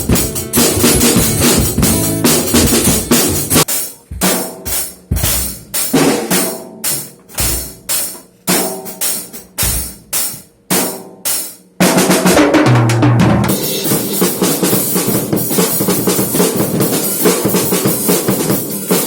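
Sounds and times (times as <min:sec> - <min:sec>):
drum fills: 0:00.0 - 0:19.0.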